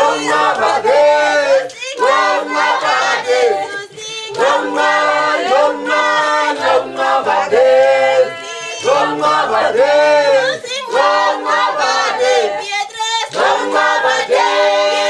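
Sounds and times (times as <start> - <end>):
group singing: 0.0 - 15.0.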